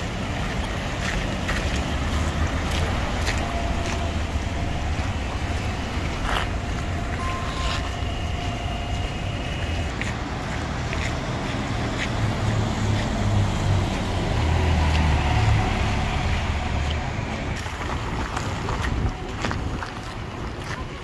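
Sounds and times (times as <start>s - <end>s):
bus driving past on wet street: 0.0s - 21.0s.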